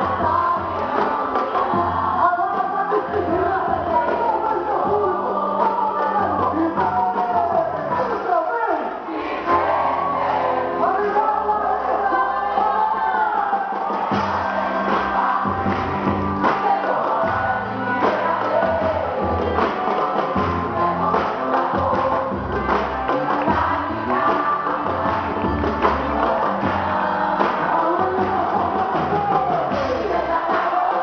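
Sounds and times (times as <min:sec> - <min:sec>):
live band music with singing: 0:00.0 - 0:31.0.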